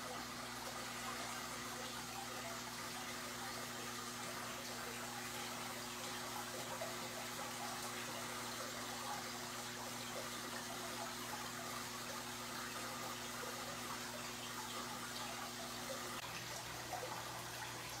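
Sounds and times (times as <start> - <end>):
aquarium air bubbles: 0.0 - 18.0.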